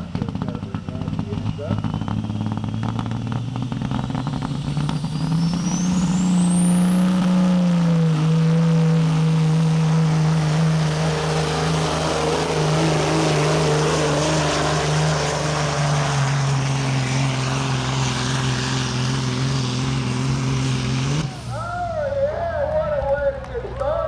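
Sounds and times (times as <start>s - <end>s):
truck diesel engine at full throttle: 0.0s - 24.0s
high whine: 0.6s - 22.7s.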